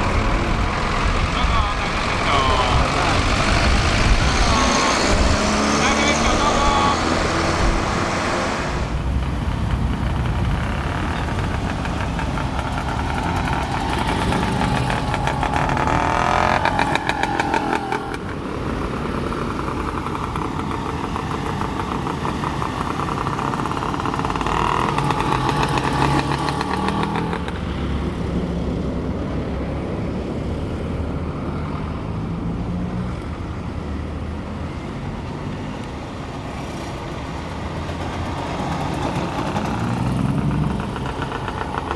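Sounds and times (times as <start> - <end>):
small truck engine revving: 0.0 - 41.9.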